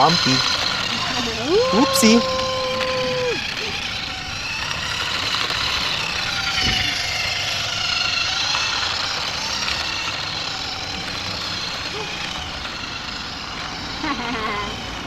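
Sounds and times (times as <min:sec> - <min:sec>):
toy car electric motor whining: 0:00.0 - 0:15.0
wheels over bumpy ground: 0:00.0 - 0:15.0.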